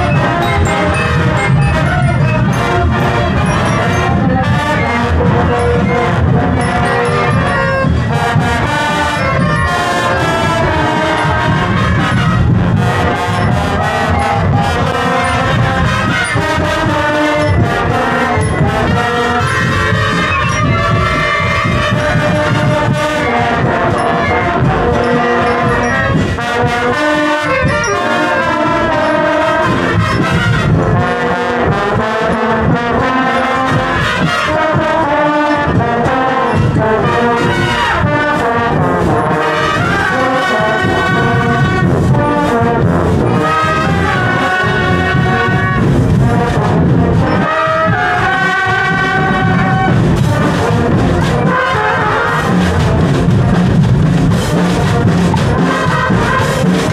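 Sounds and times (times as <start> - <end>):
brass instruments: 0.0 - 56.9
steady drum beat: 0.0 - 56.9.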